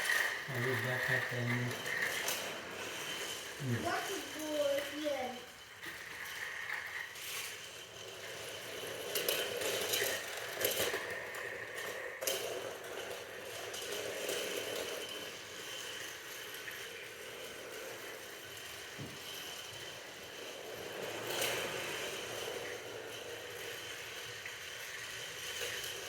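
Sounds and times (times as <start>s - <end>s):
toy train rattling whir: 0.0s - 26.0s
toy train track clicks: 0.0s - 26.0s.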